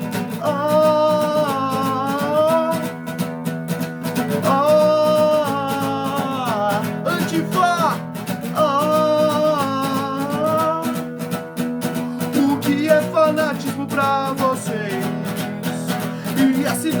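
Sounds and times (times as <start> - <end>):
guitar-backed song: 0.0 - 17.0.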